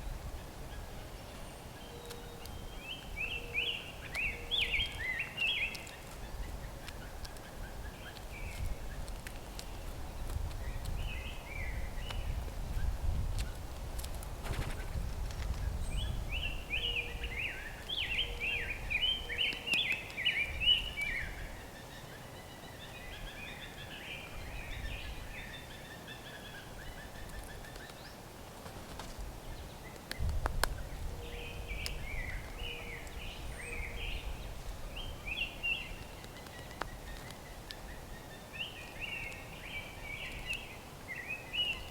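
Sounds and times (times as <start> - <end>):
songbird chirping: 0.0 - 13.6, 15.4 - 28.4, 29.0 - 41.9.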